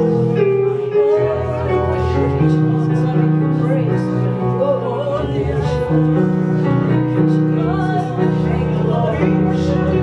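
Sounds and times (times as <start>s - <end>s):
person singing: 0.2s - 10.0s.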